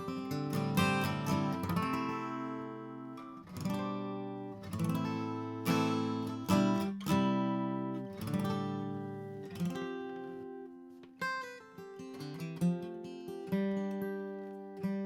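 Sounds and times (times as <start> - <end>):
acoustic guitar picking and strumming: 0.0 - 15.0.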